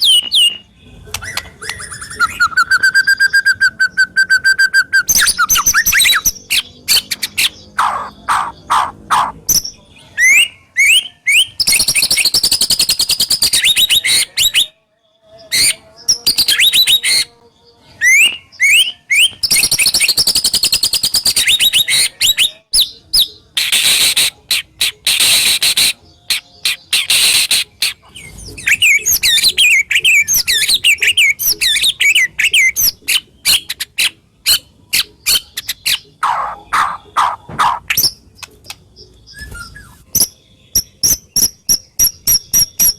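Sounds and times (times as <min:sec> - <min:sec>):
harsh high rattling bird phrases: 0:00.0 - 0:14.7, 0:15.4 - 0:17.3, 0:18.0 - 0:38.8
songbird singing varied song: 0:00.0 - 0:42.9.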